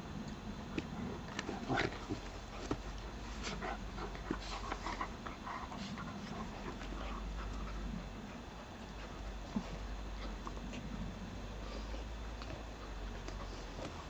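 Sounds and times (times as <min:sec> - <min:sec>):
dogs play-fighting: 0:00.2 - 0:14.0.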